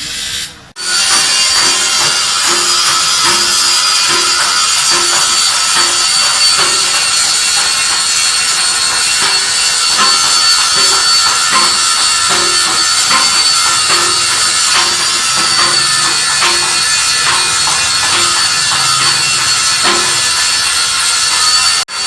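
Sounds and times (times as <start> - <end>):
jingling tambourine-like percussion: 0.8 - 22.0.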